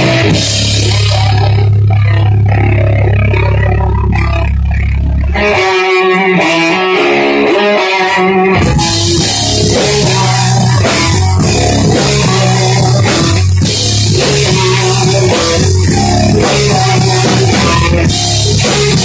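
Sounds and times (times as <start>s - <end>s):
distorted rock band playing: 0.0s - 19.0s
guitar line: 0.0s - 19.0s.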